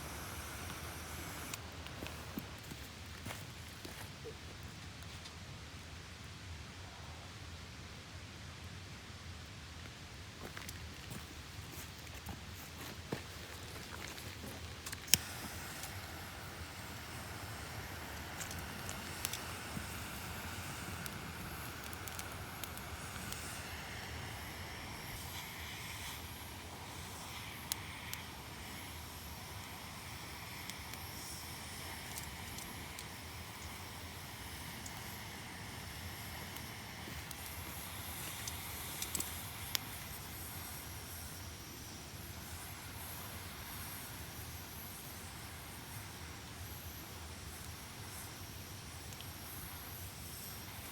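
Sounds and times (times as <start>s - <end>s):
campfire hissing and crackling: 0.0s - 50.9s.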